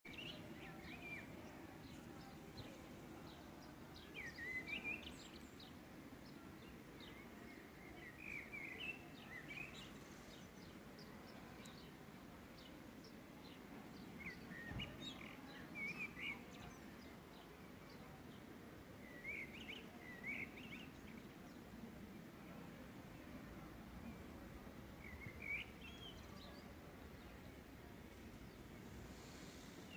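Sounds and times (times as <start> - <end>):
steady low background noise: 0.1 - 29.9.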